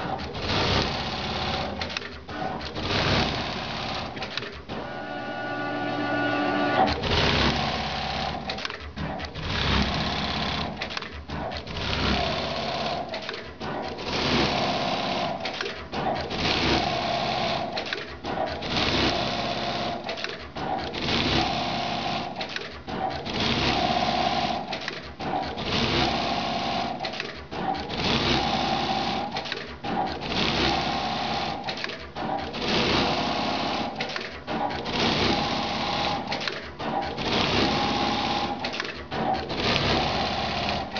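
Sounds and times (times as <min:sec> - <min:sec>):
sewing machine stitching: 0:00.0 - 0:40.9.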